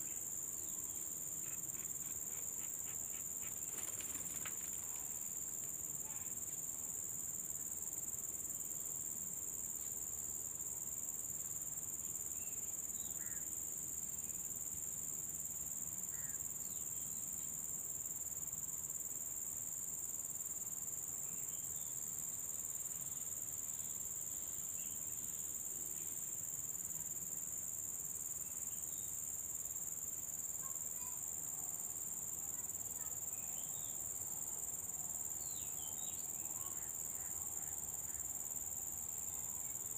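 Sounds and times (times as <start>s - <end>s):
insects droning in chorus: 0.0s - 39.9s.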